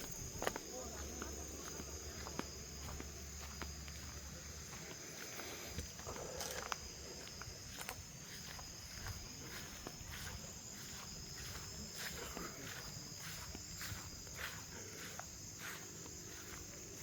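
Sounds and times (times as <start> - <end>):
crickets chirring: 0.0 - 17.0
soft footsteps on ground: 0.0 - 17.0.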